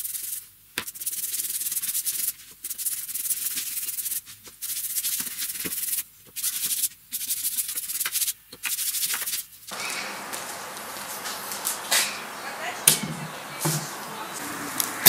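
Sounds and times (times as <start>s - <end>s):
bristle brush scrubbing wood: 0.0s - 15.0s.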